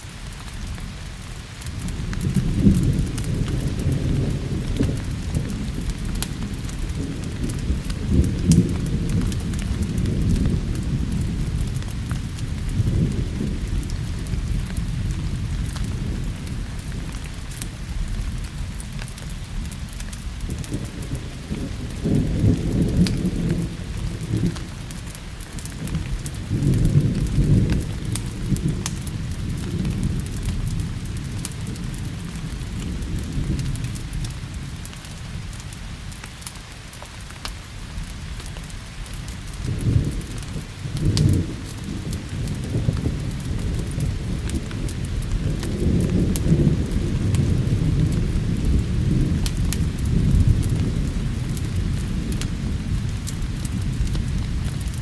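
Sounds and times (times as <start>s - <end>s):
log fire crackling: 0.0s - 55.0s
steady rain: 0.0s - 55.0s
rolling thunder: 1.6s - 18.8s, 19.4s - 35.5s, 39.6s - 55.0s.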